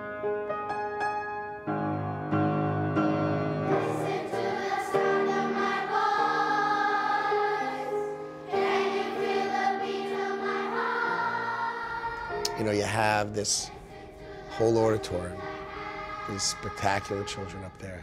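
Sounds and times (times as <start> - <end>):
children's choir singing: 2.9 - 18.0.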